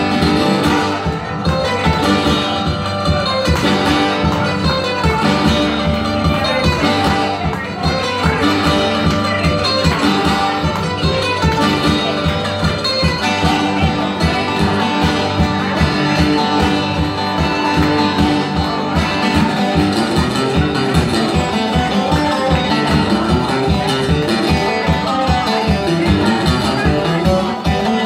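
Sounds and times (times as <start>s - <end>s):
resonator guitar blues picking: 0.0s - 28.0s
stomped beat: 0.0s - 28.0s.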